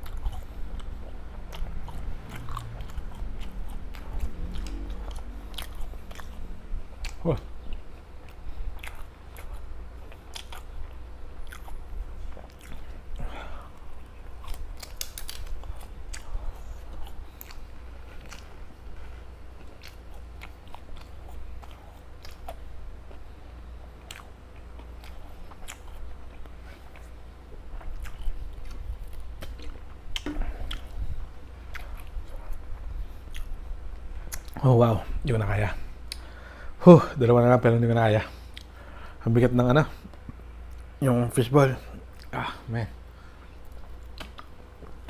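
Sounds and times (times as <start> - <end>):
chewing and biting: 0.0 - 34.6, 38.4 - 38.8, 43.4 - 45.0
steady low hum: 0.0 - 45.0.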